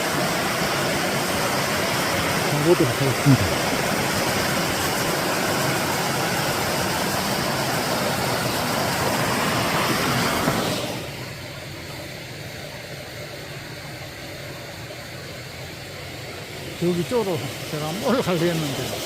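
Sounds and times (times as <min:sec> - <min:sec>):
mountain stream and waterfall rushing: 0:00.0 - 0:19.0.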